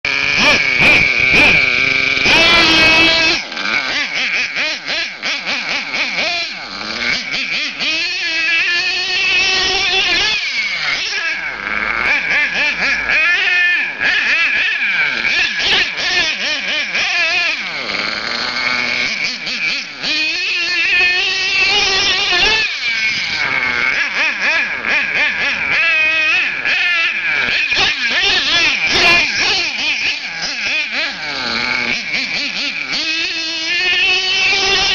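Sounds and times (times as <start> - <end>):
nitro engine revving: 0.0 - 34.9.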